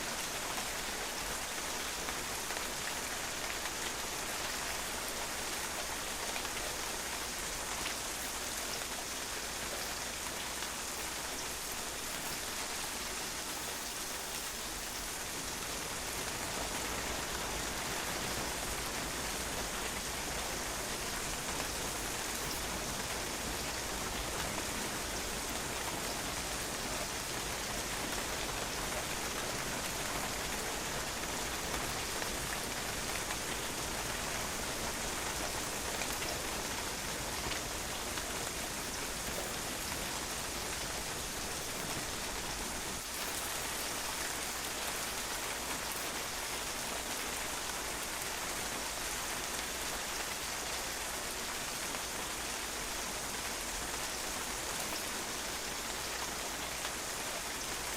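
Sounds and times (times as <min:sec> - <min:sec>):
rain pattering on patio: 0:00.0 - 0:57.9.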